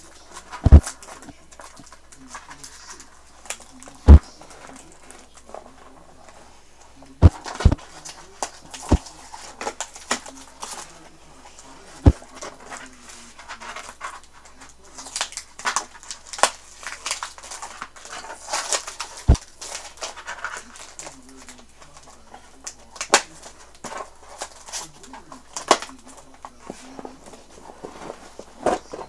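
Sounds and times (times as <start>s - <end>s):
plastic and cardboard rustling: 0.0s - 29.0s.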